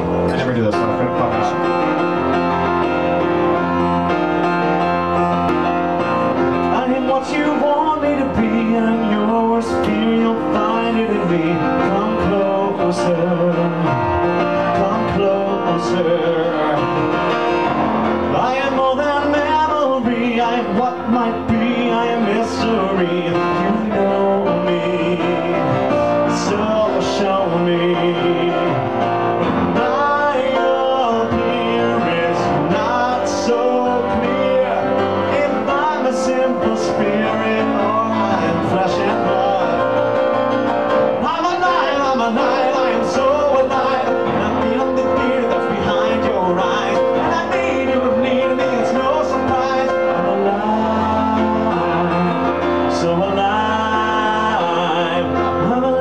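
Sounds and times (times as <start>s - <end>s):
grand piano playing: 0.0s - 56.0s
man singing into microphone: 6.4s - 56.0s.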